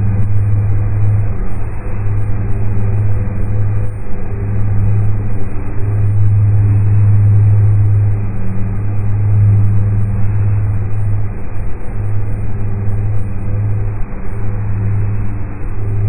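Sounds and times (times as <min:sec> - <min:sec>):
low drone with hum: 0:00.0 - 0:16.0.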